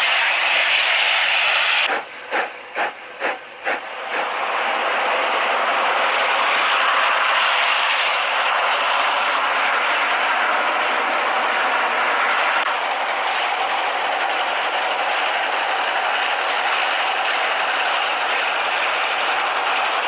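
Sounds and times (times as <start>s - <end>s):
train rushing hiss: 0.0s - 20.0s.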